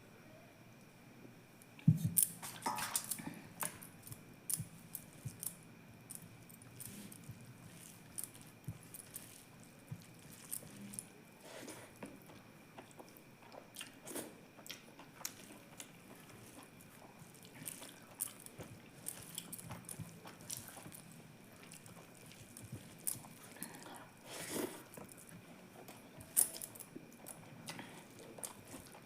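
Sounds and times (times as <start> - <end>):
person chewing food: 1.8 - 29.0.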